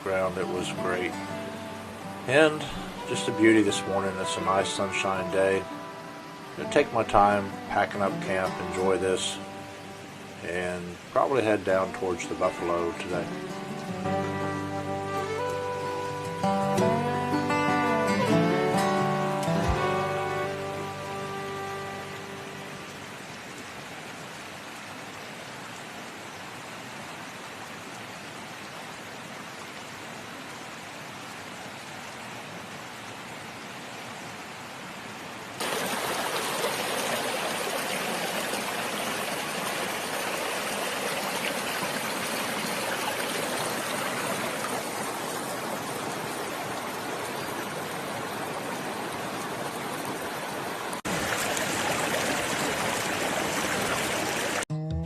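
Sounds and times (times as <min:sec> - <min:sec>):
stream water rushing: 0:00.0 - 0:54.7.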